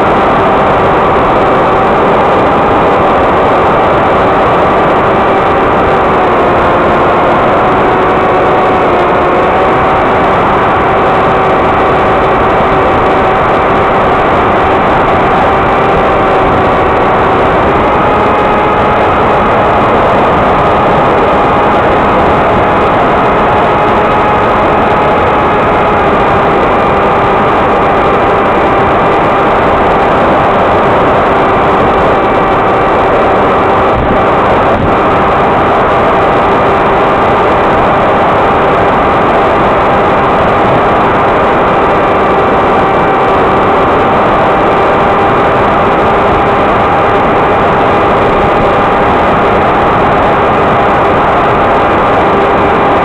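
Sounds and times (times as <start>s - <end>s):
loud rushing noise: 0.0s - 53.0s.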